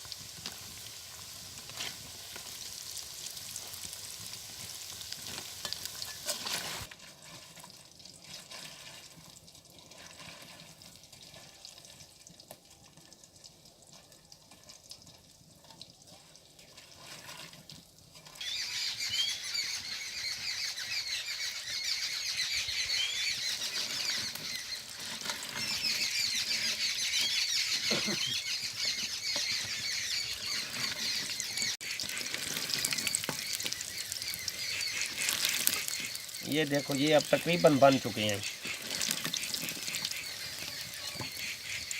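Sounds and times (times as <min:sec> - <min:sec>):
food deep-frying in hot oil: 0:00.0 - 0:41.9.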